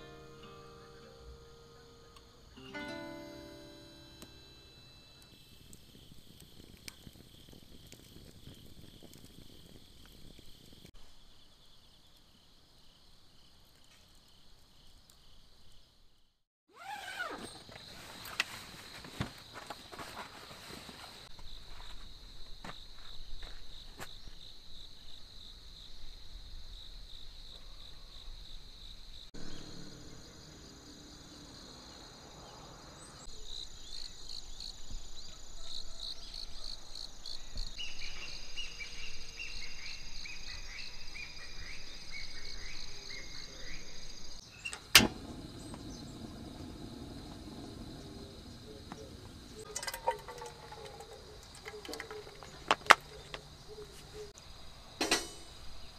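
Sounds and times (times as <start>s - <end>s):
insects chirping: 0.0s - 55.9s.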